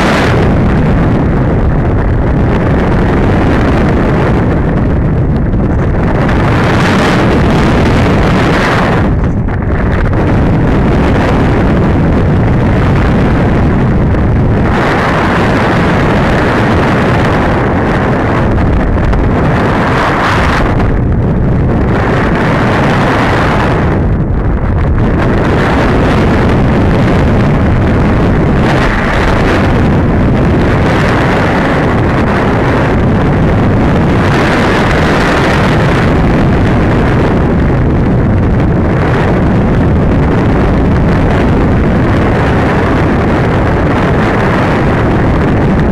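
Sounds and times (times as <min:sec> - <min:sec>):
wind rushing over camera: 0:00.0 - 0:45.9.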